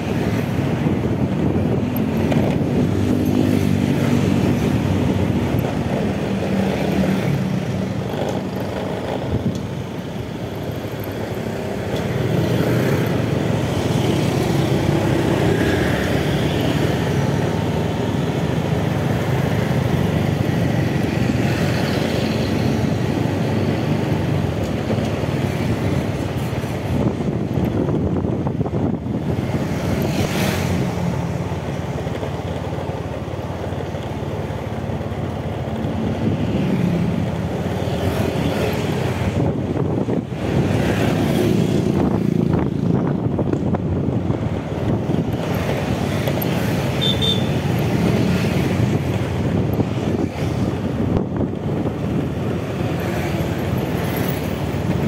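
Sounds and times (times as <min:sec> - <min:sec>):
street traffic: 0:00.0 - 0:55.0.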